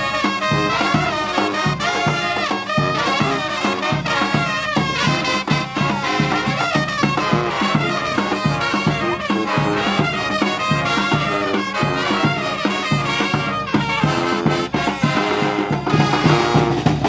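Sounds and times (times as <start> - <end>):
bass drum beat: 0.0 - 17.0
brass band playing: 0.0 - 17.0.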